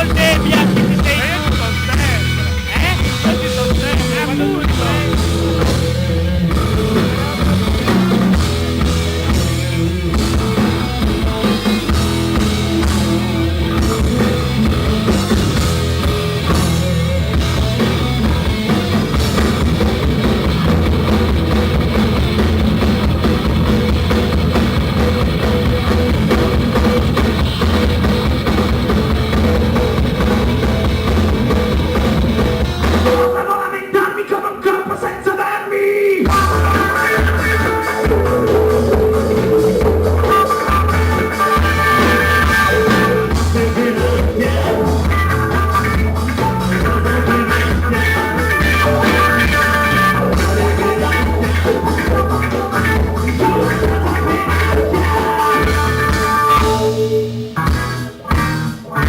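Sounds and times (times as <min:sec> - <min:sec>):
drum kit: 0:00.0 - 0:33.6, 0:36.2 - 0:59.0
rock band playing live: 0:00.0 - 0:59.0.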